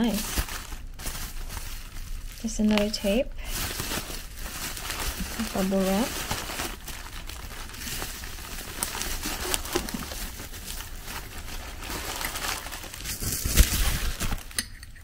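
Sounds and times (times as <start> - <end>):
bubble wrap crinkling: 0.0 - 14.6.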